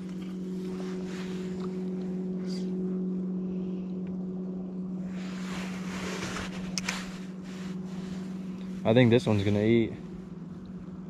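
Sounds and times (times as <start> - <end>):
electric trolling motor humming: 0.0 - 11.0.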